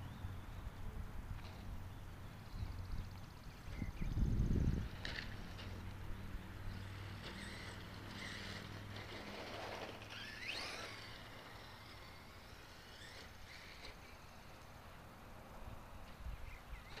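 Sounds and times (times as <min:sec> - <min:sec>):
rc truck motor whining: 0:02.4 - 0:15.3, 0:16.0 - 0:17.0.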